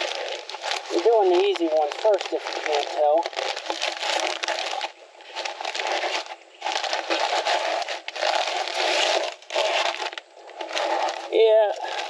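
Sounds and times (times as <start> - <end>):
fibrous pad crackling and rustling: 0.0 - 12.0.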